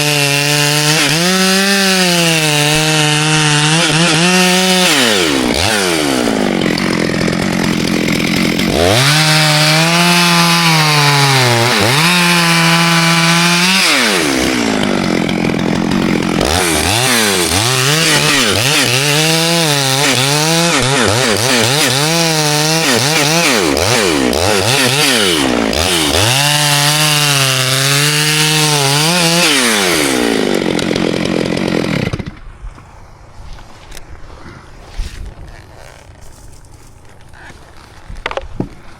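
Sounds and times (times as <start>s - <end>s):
chainsaw cutting wood: 0.0s - 32.9s, 35.0s - 38.9s.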